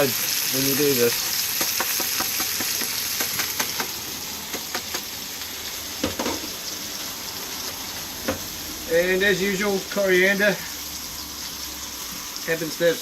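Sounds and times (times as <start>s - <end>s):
seafood frying in oil: 0.0s - 13.0s.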